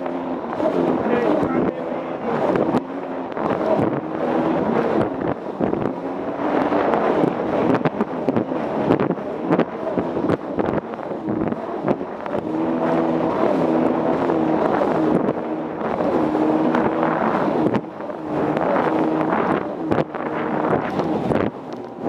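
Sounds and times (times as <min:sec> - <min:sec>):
jet ski engine running: 0:00.0 - 0:22.0
wind buffeting on microphone: 0:00.0 - 0:22.0.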